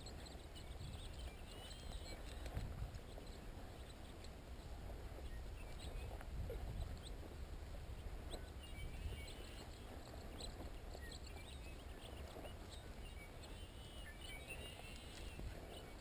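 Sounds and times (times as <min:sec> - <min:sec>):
faint bird chirps: 0:00.0 - 0:16.0
wind rumble on microphone: 0:00.0 - 0:16.0
rustling footsteps through vegetation: 0:00.8 - 0:16.0.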